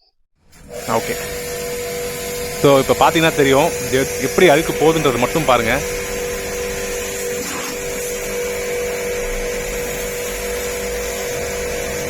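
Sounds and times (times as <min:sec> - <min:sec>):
pressure washer motor humming: 0:00.4 - 0:12.0
water spray hissing: 0:00.6 - 0:12.0.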